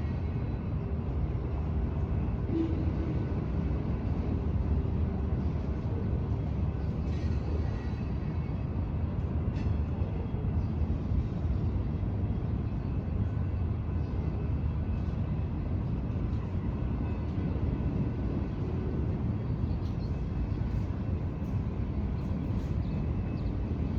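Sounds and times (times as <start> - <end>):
distant train rumbling: 0.0 - 23.9.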